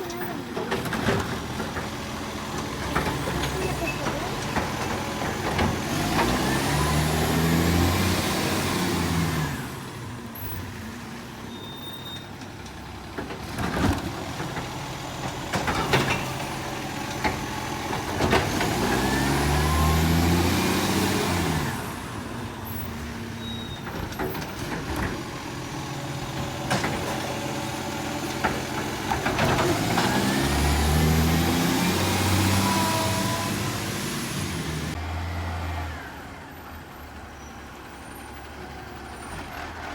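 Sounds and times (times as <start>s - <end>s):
garbage truck engine revving: 0.0s - 11.5s, 12.5s - 39.9s.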